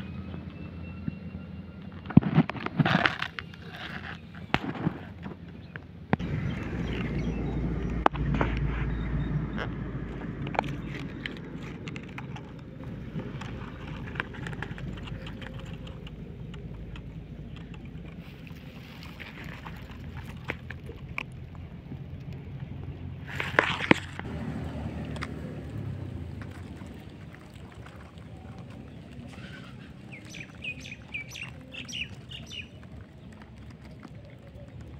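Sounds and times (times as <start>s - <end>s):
low outdoor rumble: 0.0s - 34.9s.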